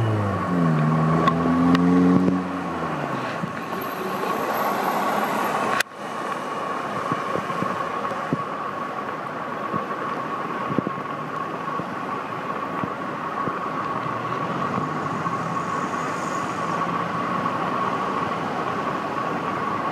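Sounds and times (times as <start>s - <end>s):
road traffic noise: 0.0s - 19.9s.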